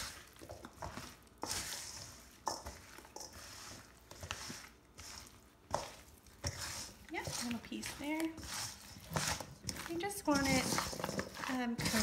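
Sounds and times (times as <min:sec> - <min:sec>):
wet stirring in metal bowl: 0:00.0 - 0:12.0.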